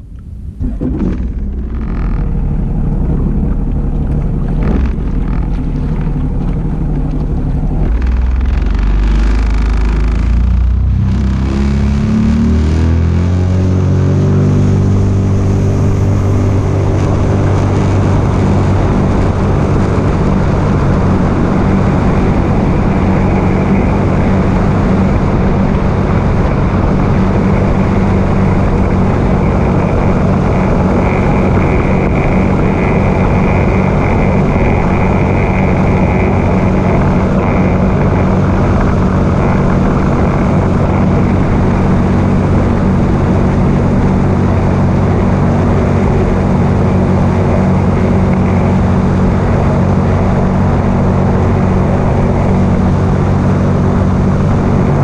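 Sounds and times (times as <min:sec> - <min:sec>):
high whine: 0:00.0 - 0:55.0
personal watercraft engine running: 0:00.0 - 0:55.0
wind: 0:00.0 - 0:55.0.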